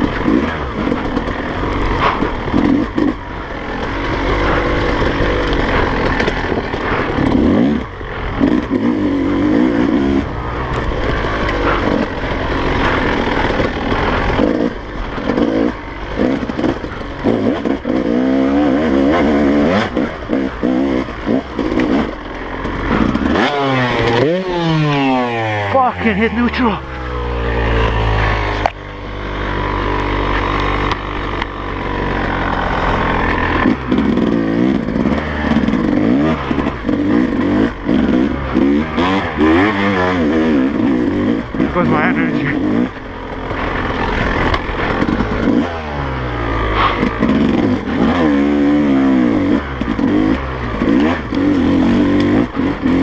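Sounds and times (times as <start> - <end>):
bike clattering and scraping: 0.0 - 41.8, 42.5 - 53.0
motorbike engine revving: 0.0 - 53.0.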